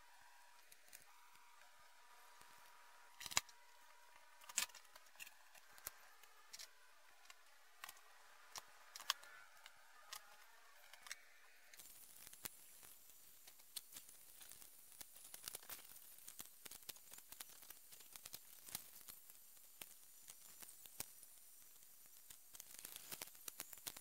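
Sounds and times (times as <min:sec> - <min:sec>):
faint steady hiss: 0:00.0 - 0:24.0
clicks and taps of small parts: 0:03.2 - 0:24.0.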